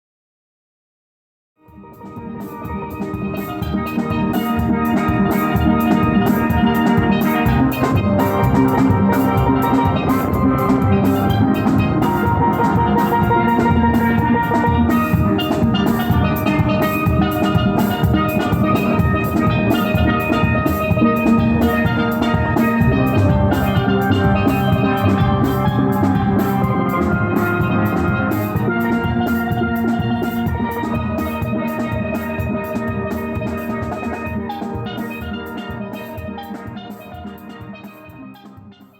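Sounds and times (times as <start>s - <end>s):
percussion beat: 1.7s - 38.9s
steel pan melody: 1.7s - 38.9s.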